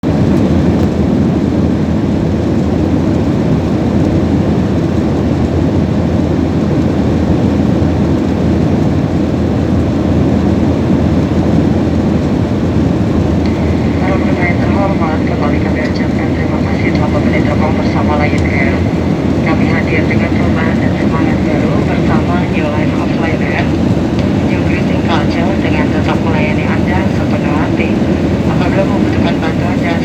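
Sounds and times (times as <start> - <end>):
airliner cabin engine rumble: 0.0 - 30.0.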